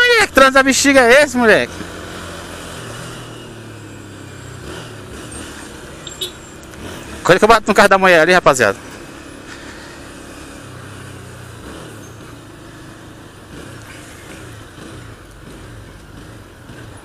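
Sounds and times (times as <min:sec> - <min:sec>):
road and traffic noise: 0:00.0 - 0:17.0
motorcycle engine at low revs: 0:00.3 - 0:17.0.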